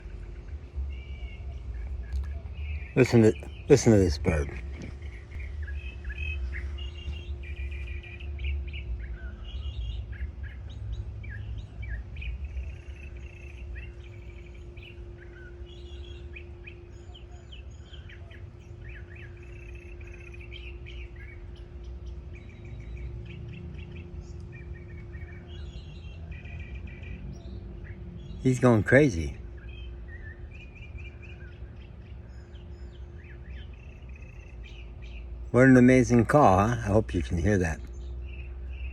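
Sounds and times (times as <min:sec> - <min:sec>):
bird singing: 0:00.0 - 0:38.9
steady low hum: 0:00.0 - 0:38.9.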